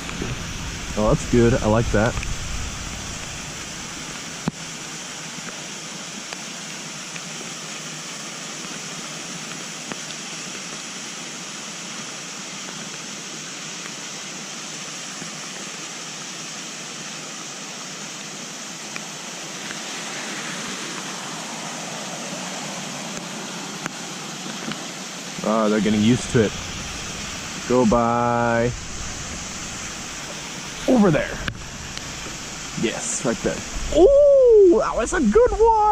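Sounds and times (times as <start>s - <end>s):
rain falling: 0.0s - 35.9s.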